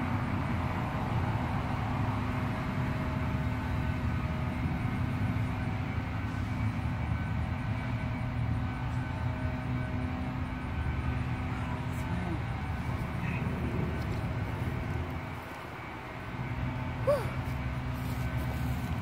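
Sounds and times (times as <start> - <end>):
faint mechanical hum: 0.0 - 19.0
low outdoor rumble: 0.0 - 19.0.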